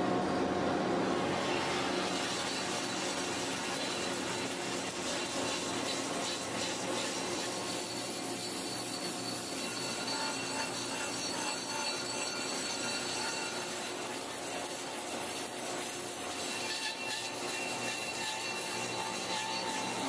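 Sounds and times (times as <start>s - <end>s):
power tool running: 1.0s - 20.0s.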